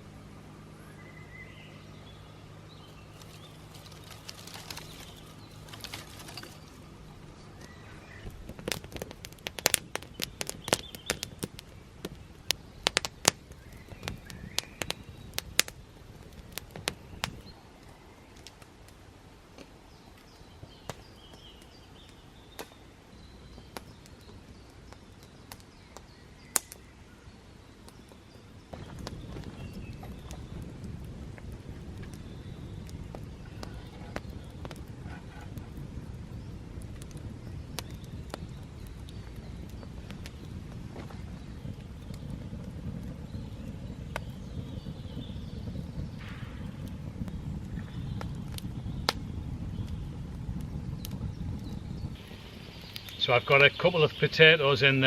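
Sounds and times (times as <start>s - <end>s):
birds chirping faintly: 0.0s - 55.0s
campfire crackling and popping: 0.0s - 55.0s.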